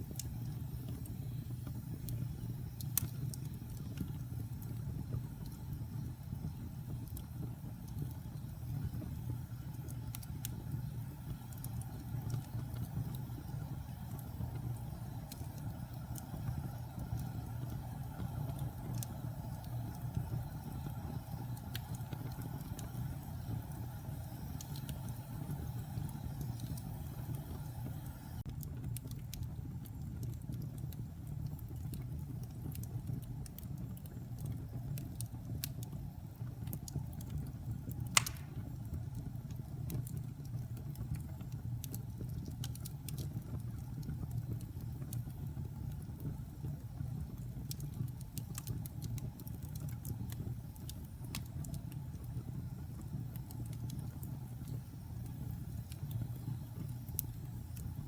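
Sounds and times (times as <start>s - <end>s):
fire crackling and popping: 0.0s - 58.0s
fire rumbling in a fireplace: 0.0s - 58.0s.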